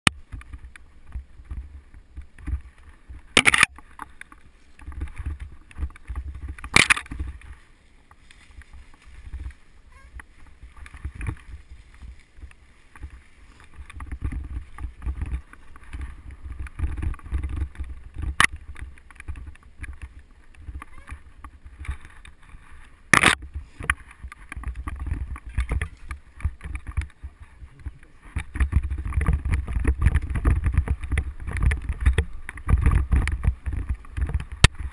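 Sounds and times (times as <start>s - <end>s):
tyres rumbling on trail: 0.0s - 34.9s
bike rattling over bumps: 0.1s - 34.9s
wind on microphone: 0.2s - 34.9s.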